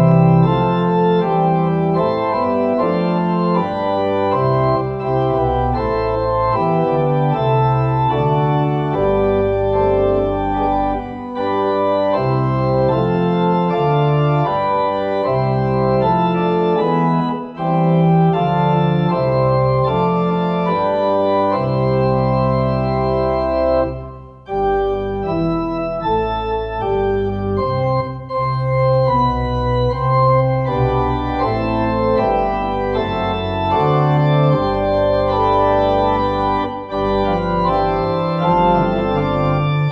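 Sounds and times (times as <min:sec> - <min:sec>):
organ playing sustained chords: 0:00.0 - 0:39.9.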